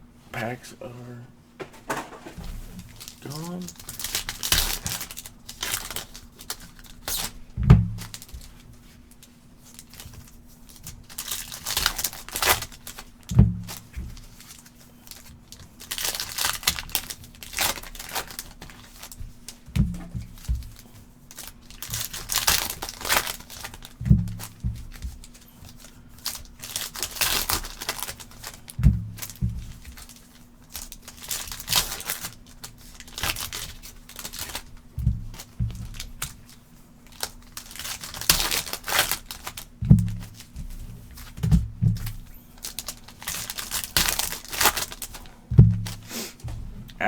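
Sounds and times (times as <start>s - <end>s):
faint steady hum: 0.0s - 47.0s
foil wrappers tearing and crinkling: 2.2s - 46.1s.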